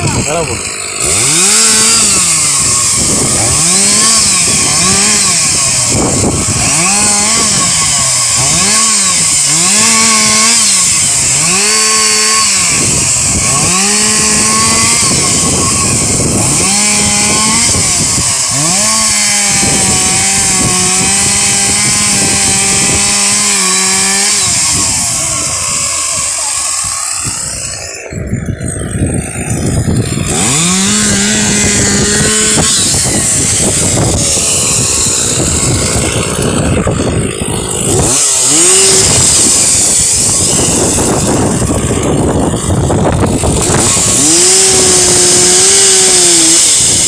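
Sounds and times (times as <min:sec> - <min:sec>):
chainsaw engine revving: 0:00.0 - 0:47.0.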